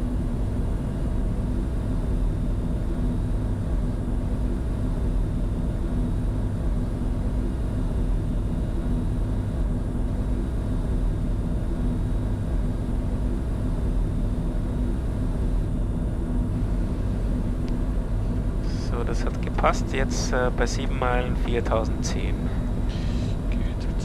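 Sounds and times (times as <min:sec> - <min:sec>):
faint steady hum: 0:00.0 - 0:24.0
jet engine noise: 0:00.0 - 0:24.0
aircraft cockpit airflow: 0:00.8 - 0:24.0.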